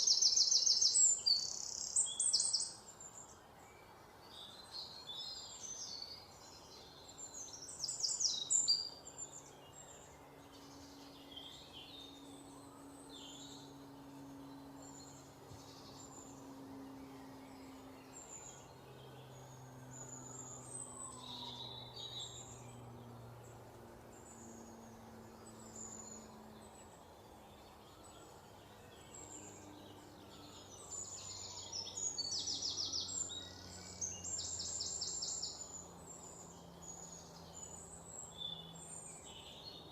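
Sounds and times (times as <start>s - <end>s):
birds calling and chirping: 0.0s - 39.9s
faint low drone: 0.0s - 39.9s.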